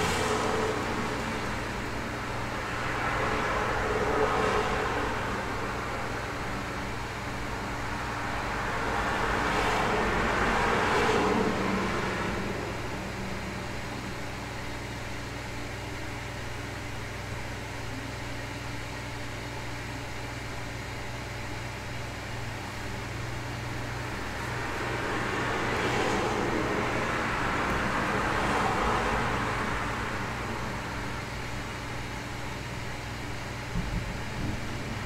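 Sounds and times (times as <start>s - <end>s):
cars passing outside: 0.0s - 18.2s, 19.8s - 35.0s.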